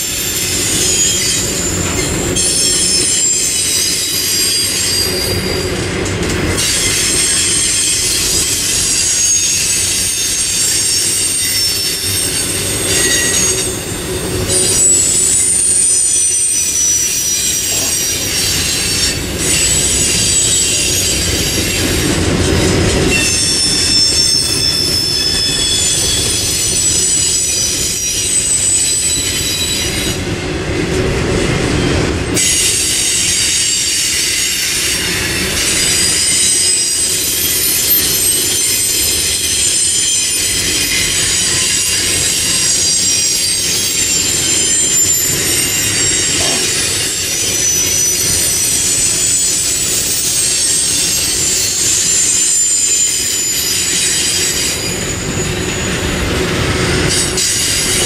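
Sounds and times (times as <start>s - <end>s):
high-pitched wheel squeals: 0.0s - 5.9s, 6.6s - 30.2s, 31.9s - 58.0s
train wheels rumbling: 0.0s - 58.0s.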